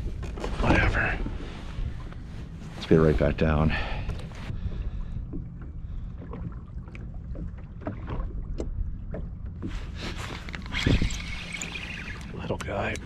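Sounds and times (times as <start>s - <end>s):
low wind rumble on microphone: 0.0s - 13.0s
water lapping against kayak hull: 0.0s - 13.0s.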